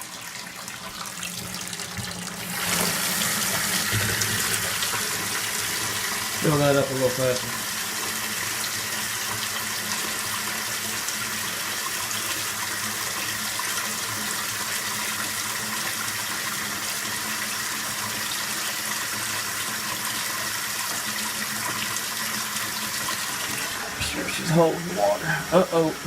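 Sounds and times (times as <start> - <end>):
faucet running into sink: 0.0 - 26.0.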